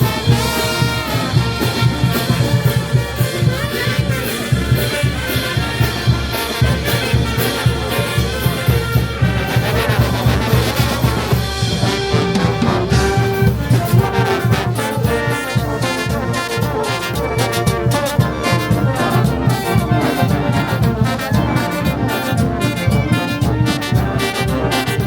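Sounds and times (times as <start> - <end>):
brass band playing: 0.0 - 25.0.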